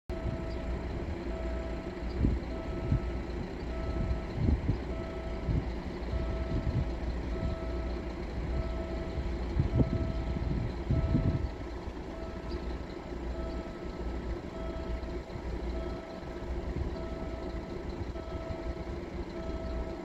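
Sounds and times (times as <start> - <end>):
level crossing warning beeps: 0.1 - 20.0
low rumble with thumps: 0.1 - 20.0.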